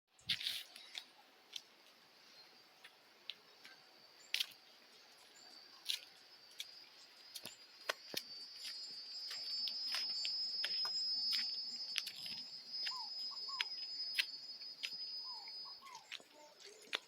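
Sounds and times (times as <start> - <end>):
high-pitched hiss: 0.3 - 16.8.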